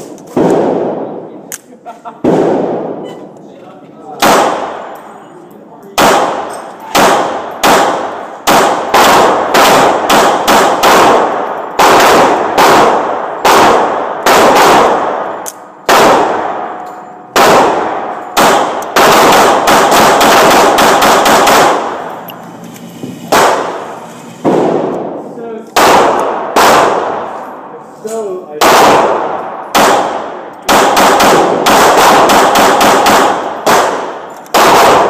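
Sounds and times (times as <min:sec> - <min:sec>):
pistol shots with ringing echo: 0:00.3 - 0:01.3, 0:02.2 - 0:03.1, 0:04.2 - 0:05.1, 0:05.9 - 0:22.4, 0:23.3 - 0:27.7, 0:28.5 - 0:35.0.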